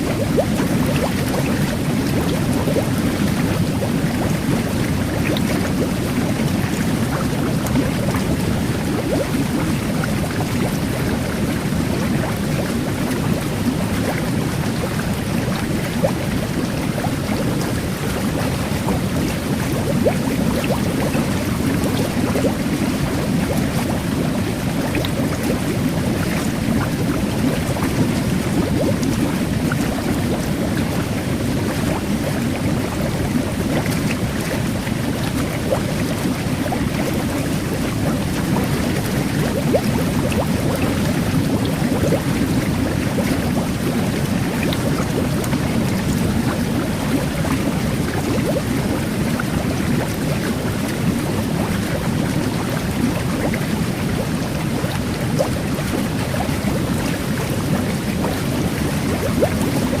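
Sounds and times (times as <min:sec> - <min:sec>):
fizzing bubbles: 0:00.0 - 1:00.0
jet bath water rushing: 0:00.0 - 1:00.0.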